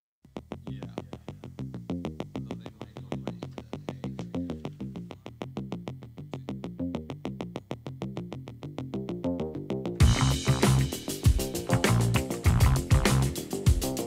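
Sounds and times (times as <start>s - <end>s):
low bass line: 0.3s - 14.0s.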